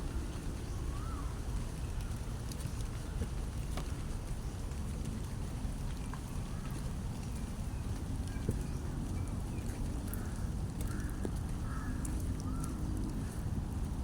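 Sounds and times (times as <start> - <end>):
rain: 0.0 - 14.0
wind rumble on microphone: 0.0 - 14.0.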